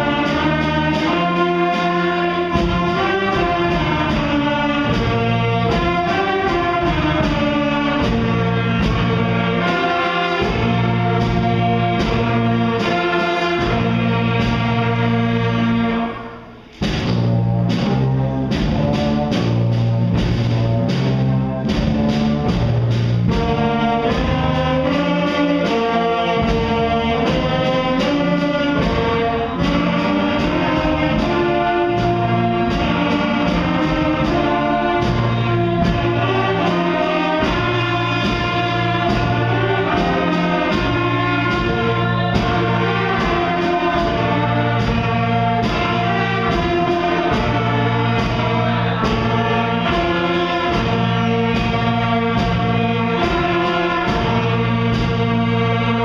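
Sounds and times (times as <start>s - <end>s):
concert band playing: 0.0s - 56.0s.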